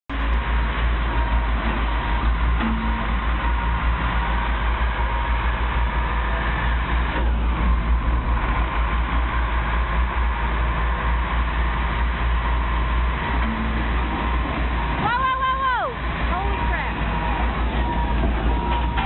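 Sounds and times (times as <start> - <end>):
diesel engines droning: 0.1 - 19.0.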